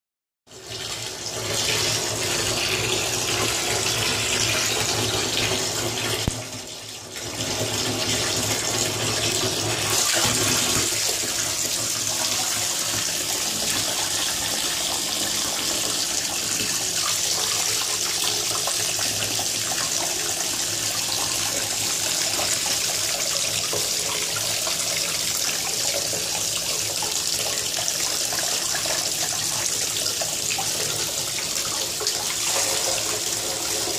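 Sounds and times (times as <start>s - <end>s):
water pouring into bathtub: 0.5s - 33.9s.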